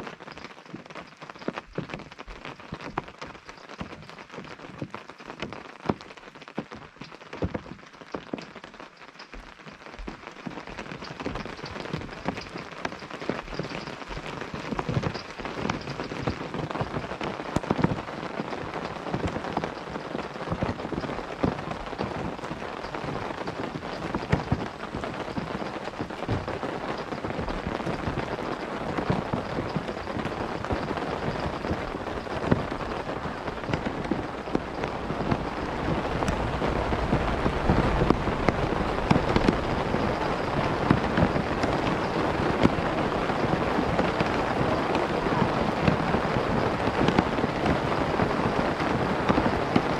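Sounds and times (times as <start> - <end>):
rain on a tent: 0.0 - 49.9.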